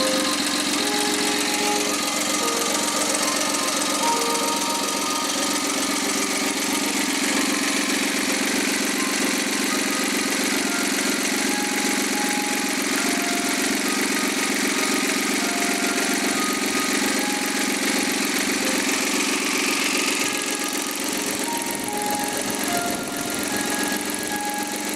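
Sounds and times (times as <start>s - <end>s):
car engine running steadily: 0.0s - 24.9s.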